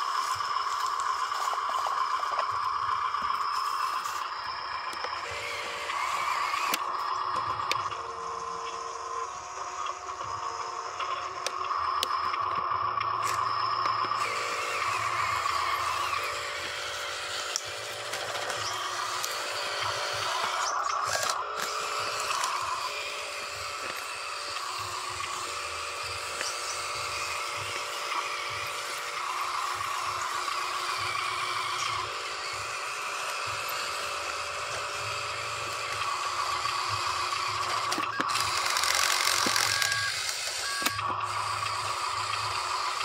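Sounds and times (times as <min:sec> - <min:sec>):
toy truck electric motor whining: 0:00.0 - 0:43.0.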